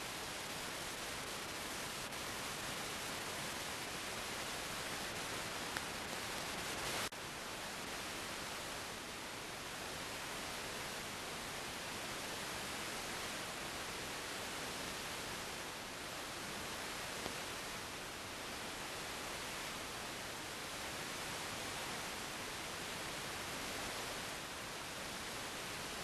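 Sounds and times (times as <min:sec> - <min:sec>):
television static hiss: 0:00.0 - 0:26.0.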